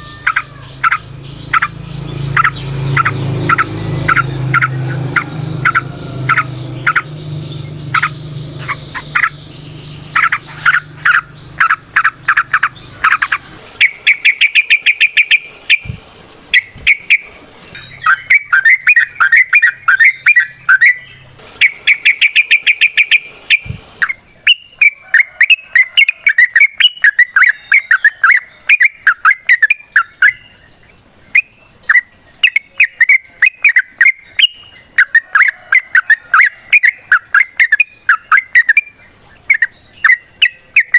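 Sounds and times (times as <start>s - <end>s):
bird chattering song: 0.0s - 40.9s
low steady hum: 0.0s - 40.9s.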